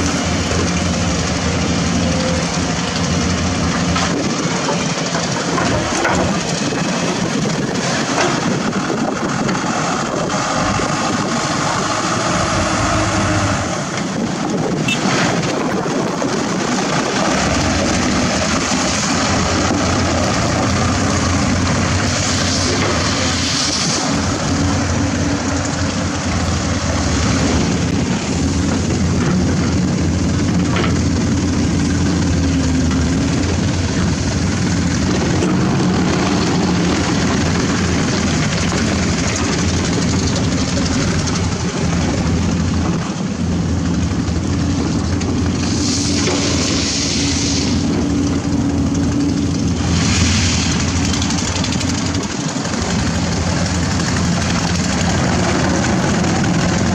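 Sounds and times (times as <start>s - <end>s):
dump truck engine driving off: 0.0s - 56.9s
excavator diesel engine: 0.0s - 56.9s.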